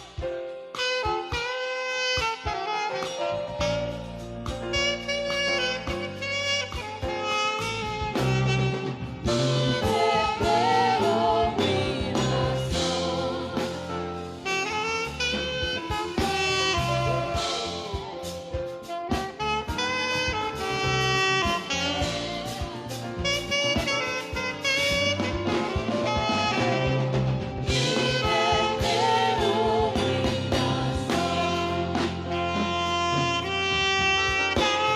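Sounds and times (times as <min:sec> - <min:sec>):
saxophone melody with vibrato: 0:00.0 - 0:34.9.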